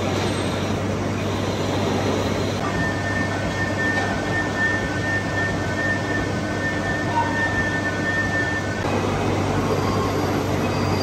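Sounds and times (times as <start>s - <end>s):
high whine: 0.0s - 11.0s
lathe machine noise: 0.0s - 11.0s.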